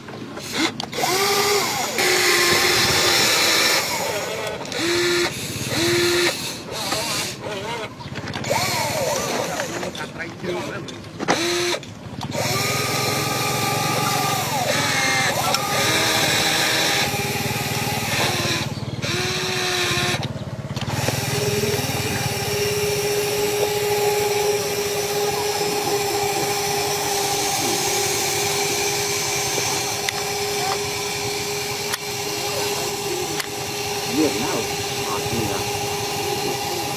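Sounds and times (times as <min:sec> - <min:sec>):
toy electric motors whining: 0:00.0 - 0:36.9.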